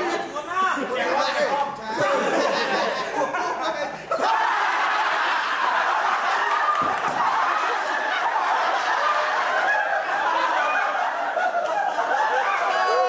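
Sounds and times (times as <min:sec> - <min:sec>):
men laughing: 0:00.0 - 0:13.0.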